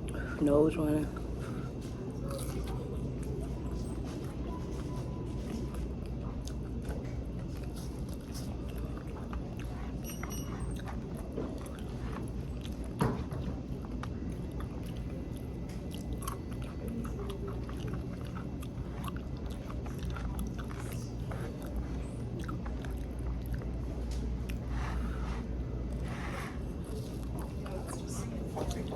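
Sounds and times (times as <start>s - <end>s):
steady low hum: 0.0s - 28.9s
chewing crunchy fried fish: 1.1s - 28.9s.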